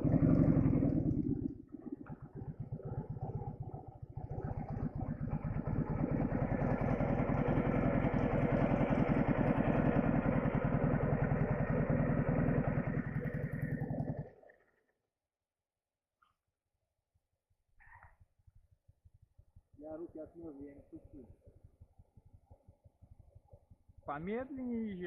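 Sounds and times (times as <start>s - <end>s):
motorcycle engine running: 0.0s - 14.5s, 18.5s - 25.0s.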